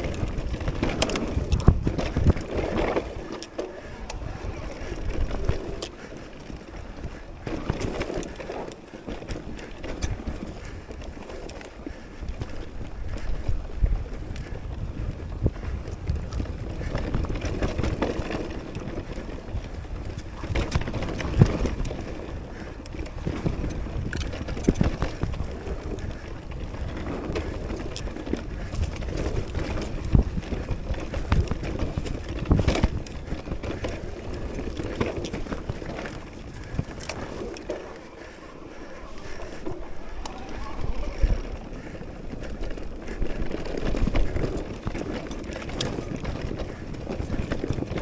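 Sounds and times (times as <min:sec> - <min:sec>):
bike knocking and rattling: 0:00.0 - 0:48.0
wind buffeting microphone: 0:00.0 - 0:48.0.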